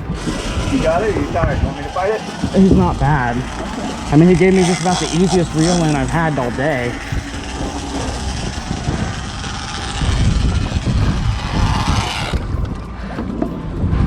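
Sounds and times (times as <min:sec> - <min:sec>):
rushing hiss: 0:00.0 - 0:13.5
boat engine running: 0:00.0 - 0:14.0
low uneven rumbling: 0:00.0 - 0:14.0.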